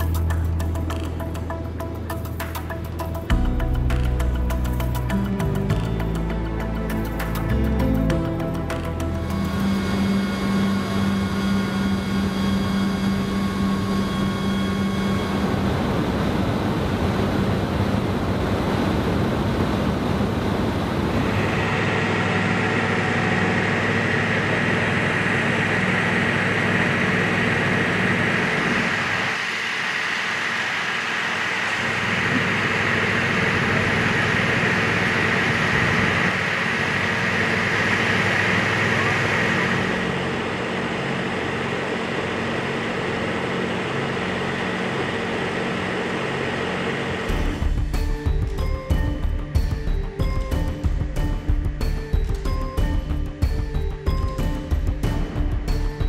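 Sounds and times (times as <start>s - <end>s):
aircraft cabin drone: 0.0s - 56.0s
aircraft high whine: 0.0s - 56.0s.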